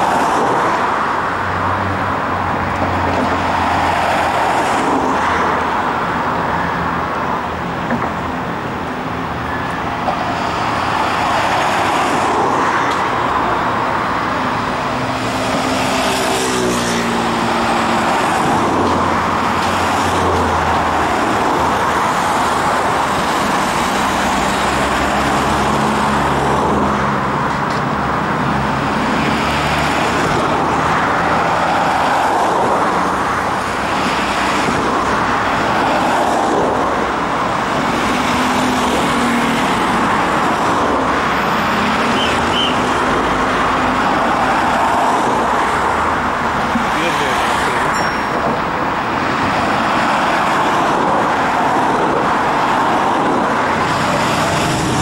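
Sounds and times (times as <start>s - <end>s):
road traffic passing: 0.0s - 55.0s
tram rolling along tracks: 7.6s - 55.0s.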